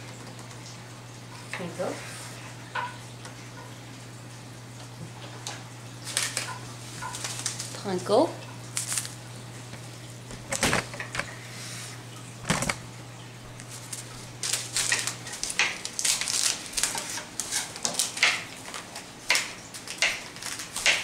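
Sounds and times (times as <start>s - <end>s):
low steady hum: 0.0s - 20.7s.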